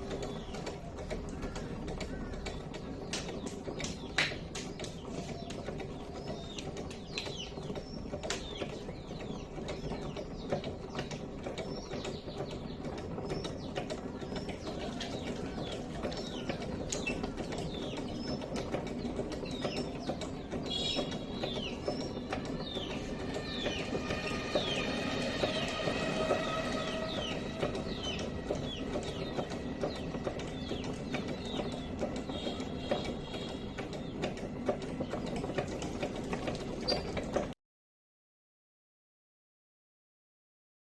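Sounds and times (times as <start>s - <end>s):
small birds chirping: 0.0s - 37.5s.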